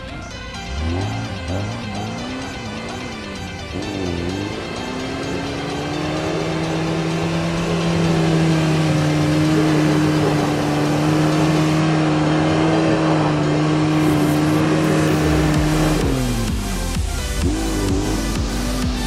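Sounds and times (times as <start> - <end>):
vehicle engine at high revs: 0.0 - 19.0.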